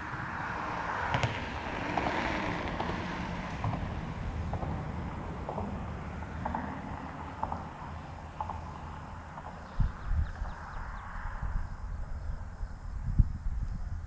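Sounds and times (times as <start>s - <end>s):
vehicle tyres rushing: 0.0s - 11.6s.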